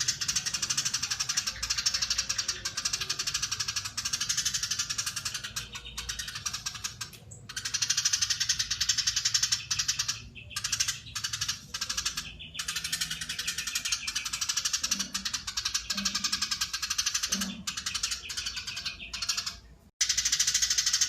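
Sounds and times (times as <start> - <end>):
sparrow chattering: 0.0 - 21.0.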